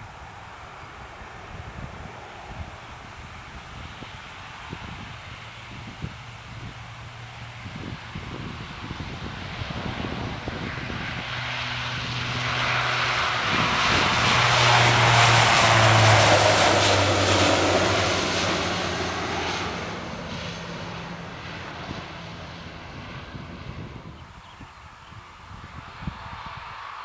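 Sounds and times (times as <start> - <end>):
low propeller hum: 0.0 - 27.0
turboprop airliner taking off: 0.0 - 27.0.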